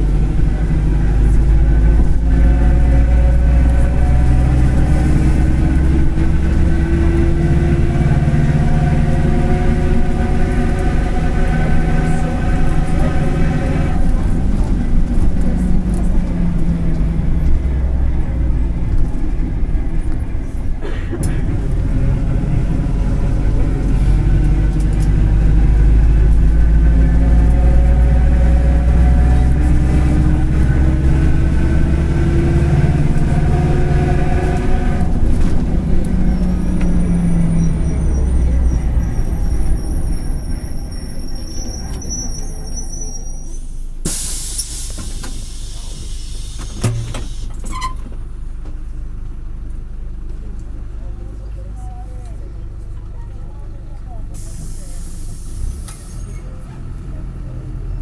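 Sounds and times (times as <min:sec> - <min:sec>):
diesel bus engine running: 0:00.0 - 0:58.0.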